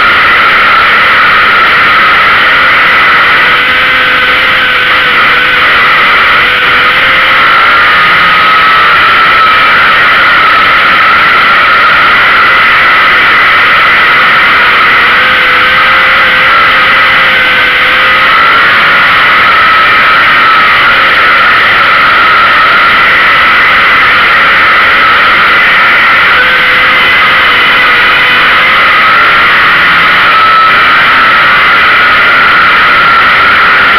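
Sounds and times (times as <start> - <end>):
race car engine at high revs: 0.0 - 33.9.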